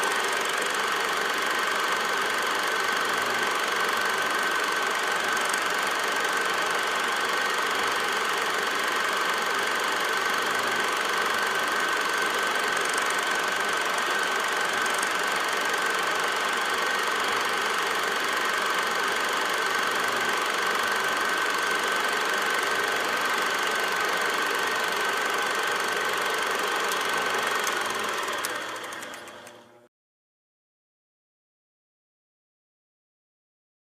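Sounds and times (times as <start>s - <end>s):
film projector whirring: 0.0s - 29.9s.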